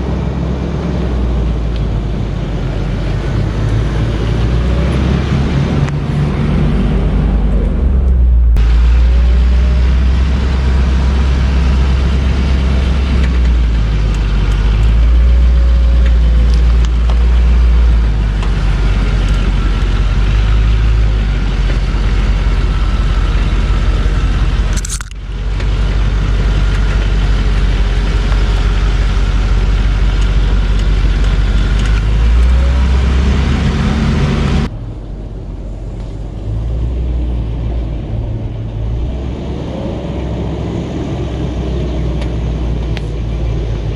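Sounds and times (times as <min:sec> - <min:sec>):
off-road vehicle engine rumble: 0:00.0 - 0:43.9.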